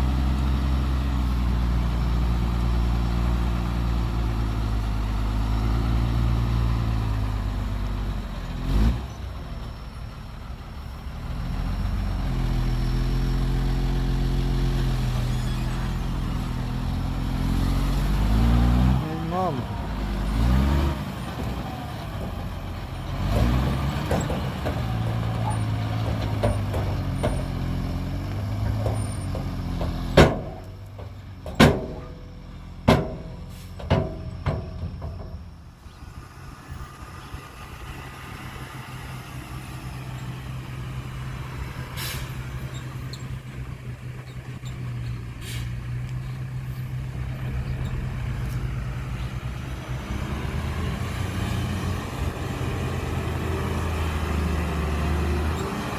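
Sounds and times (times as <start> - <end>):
diesel earthmoving machine engine: 0.0 - 55.9.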